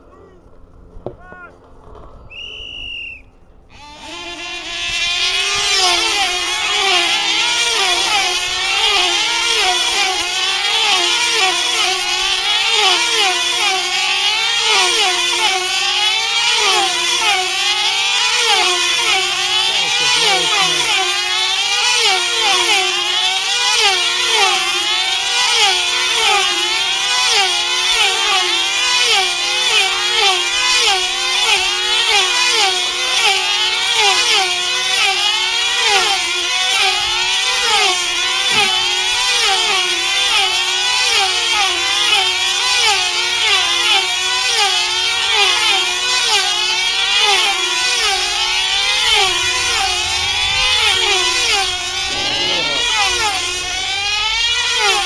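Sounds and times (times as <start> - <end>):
model aircraft engines screaming: 2.3 - 55.0.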